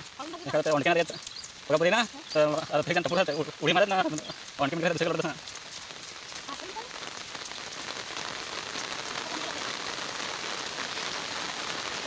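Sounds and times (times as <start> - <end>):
rain pattering on leaves: 0.0 - 12.0.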